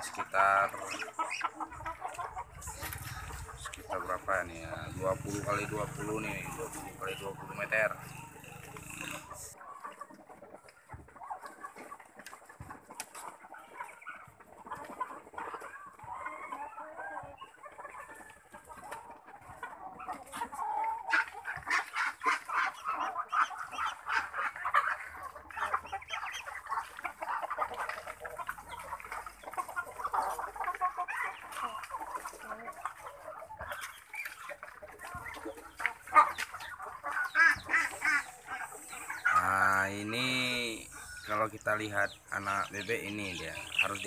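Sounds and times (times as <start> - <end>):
chickens clucking: 0.0 - 44.0.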